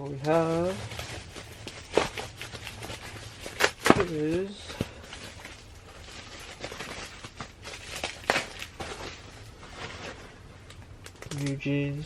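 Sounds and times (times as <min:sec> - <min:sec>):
handling noise rustling: 0:00.0 - 0:11.6.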